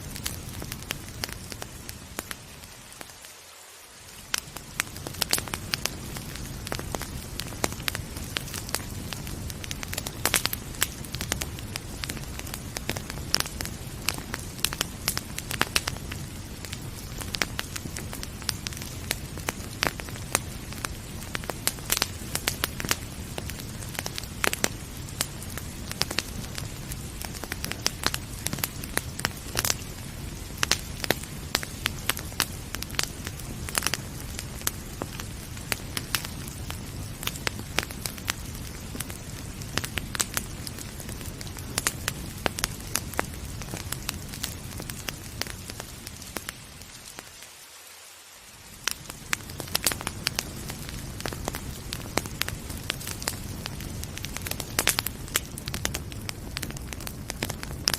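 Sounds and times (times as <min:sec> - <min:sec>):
wood fire crackling and popping: 0:00.0 - 0:03.3, 0:04.0 - 0:47.5, 0:48.6 - 0:57.9.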